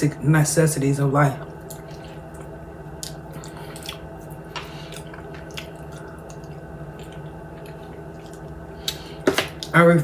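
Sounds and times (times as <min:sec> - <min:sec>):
low steady hum: 0:00.0 - 0:10.0
chewing fried chicken: 0:01.4 - 0:09.8.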